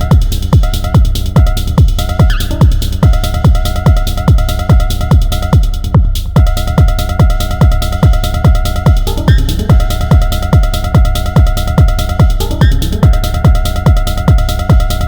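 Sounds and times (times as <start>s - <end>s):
kick drum: 0.0s - 15.0s
ticking hi-hats: 0.0s - 15.0s.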